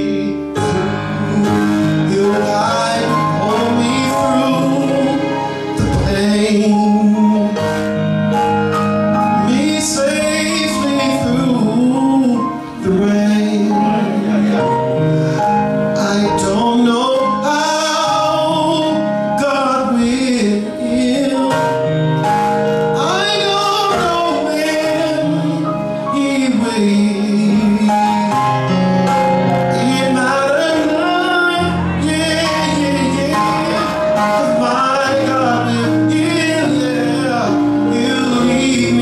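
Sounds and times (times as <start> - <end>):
man singing gospel: 0.0 - 8.6, 9.2 - 39.0
held chords and bass notes: 0.0 - 39.0.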